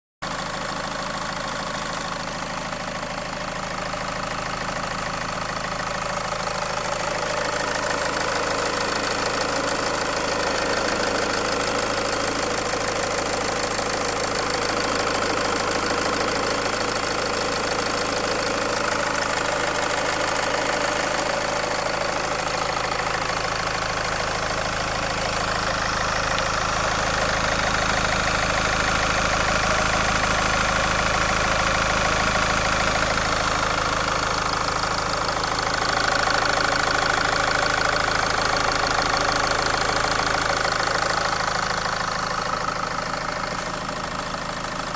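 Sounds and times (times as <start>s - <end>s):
car engine running: 0.2s - 44.9s.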